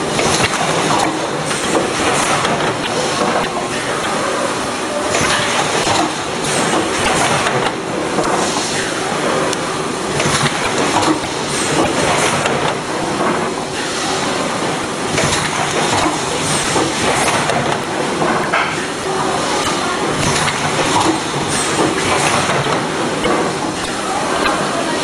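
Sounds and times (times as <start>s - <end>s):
packing machine clattering: 0.0s - 4.2s, 5.0s - 8.5s, 10.0s - 13.8s, 15.0s - 24.6s.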